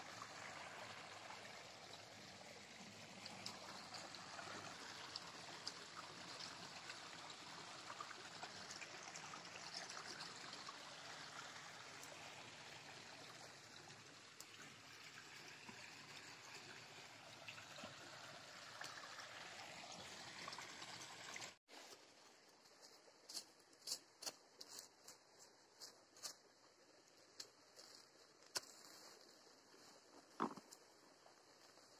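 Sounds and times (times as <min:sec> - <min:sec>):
stream running over rocks: 0:00.0 - 0:31.9.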